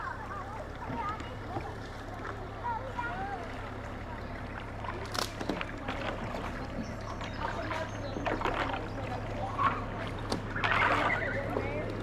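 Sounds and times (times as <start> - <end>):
river water lapping and splashing: 0.0 - 12.0
small splashes and drips: 0.1 - 12.0.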